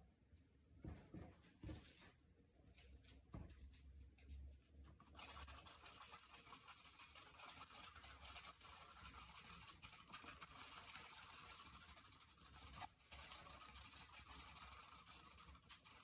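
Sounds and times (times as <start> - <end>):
faint scratchy scraping: 2.8 - 16.0.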